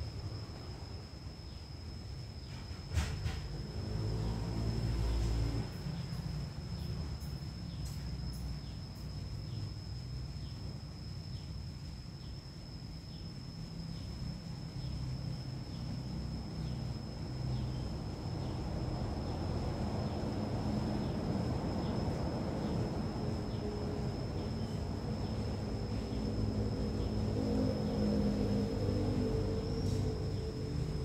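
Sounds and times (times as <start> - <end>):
cicadas droning: 0.0 - 31.0.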